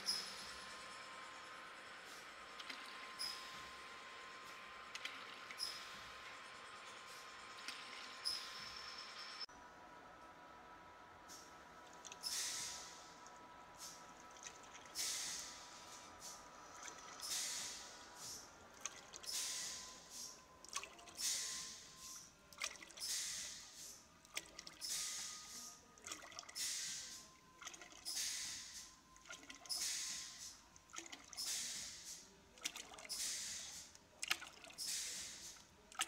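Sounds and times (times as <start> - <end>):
faint steady machine whine: 0.0 - 36.0.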